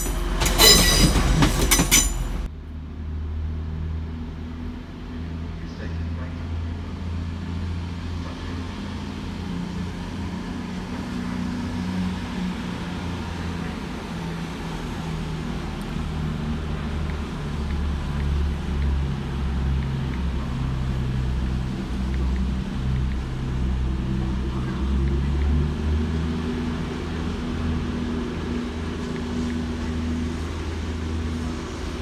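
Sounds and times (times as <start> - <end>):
diesel train engine droning: 0.0 - 32.0.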